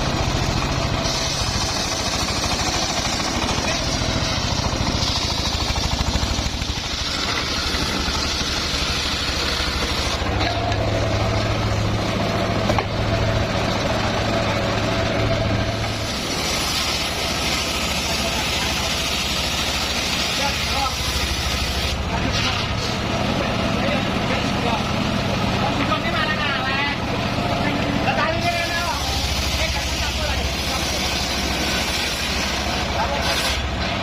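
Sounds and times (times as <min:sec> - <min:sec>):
sawmill engine running: 0:00.0 - 0:34.0.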